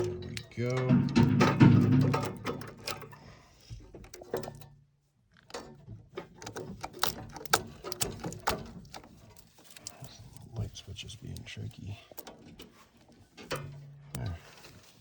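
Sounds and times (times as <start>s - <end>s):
clicks and taps of wires: 0.0s - 15.0s.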